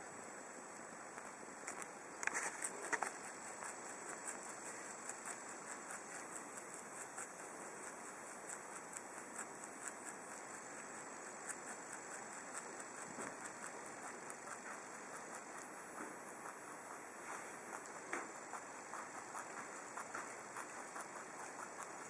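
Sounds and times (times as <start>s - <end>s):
rabbit chewing greens: 0.0s - 22.0s.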